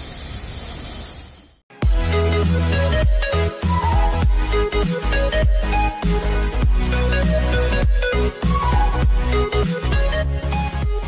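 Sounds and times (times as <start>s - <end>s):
deep heavy bass beat: 1.8s - 11.0s.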